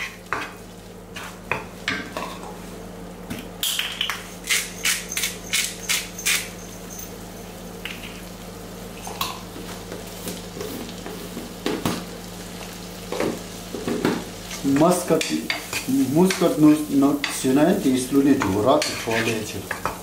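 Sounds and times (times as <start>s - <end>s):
bacon sizzling in frying pan: 3.7s - 20.0s.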